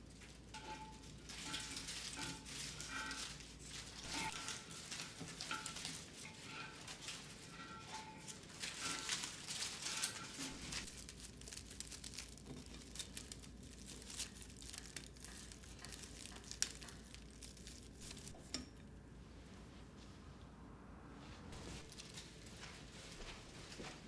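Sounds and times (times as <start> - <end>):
soft rustling and crinkling: 0.0 - 24.0.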